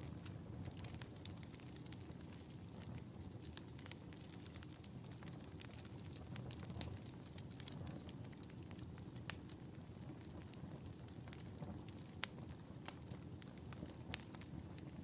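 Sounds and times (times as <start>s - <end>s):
fire crackling and popping: 0.0s - 15.0s
fireplace fire rumbling: 0.0s - 15.0s.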